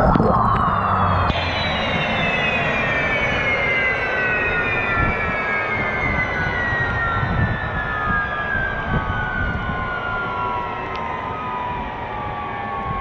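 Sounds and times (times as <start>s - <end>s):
turbine whine winding down: 0.0s - 13.0s.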